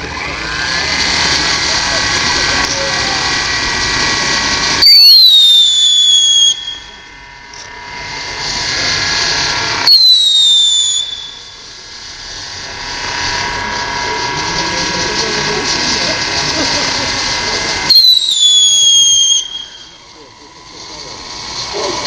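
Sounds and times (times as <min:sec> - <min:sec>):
hissing spray of sparks: 0:00.0 - 0:22.0
whistling firework: 0:00.0 - 0:22.0.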